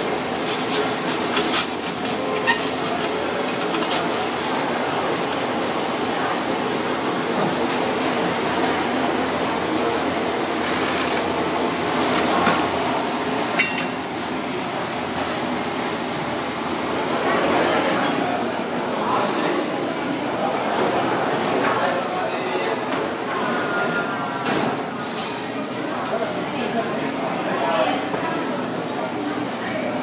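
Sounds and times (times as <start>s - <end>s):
kitchen hum and murmur: 0.0s - 30.0s.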